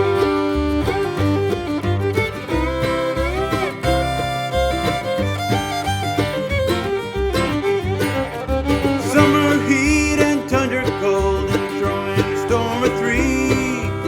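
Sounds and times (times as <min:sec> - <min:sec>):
bluegrass music with fiddle and banjo: 0:00.0 - 0:14.0.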